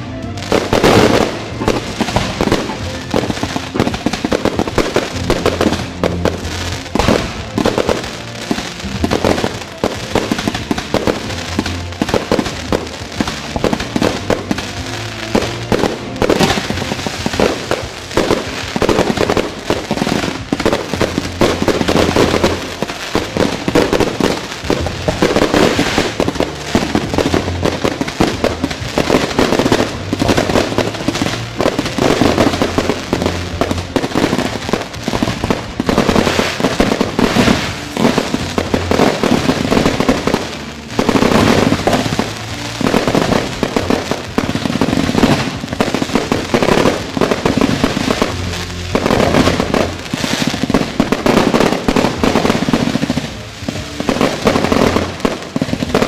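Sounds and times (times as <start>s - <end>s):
fireworks shells bursting: 0.0s - 56.0s
music: 0.0s - 56.0s.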